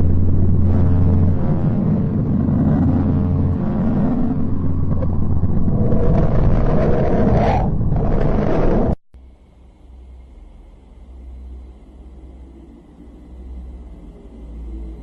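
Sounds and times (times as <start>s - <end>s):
deep noisy drone: 0.0s - 15.0s.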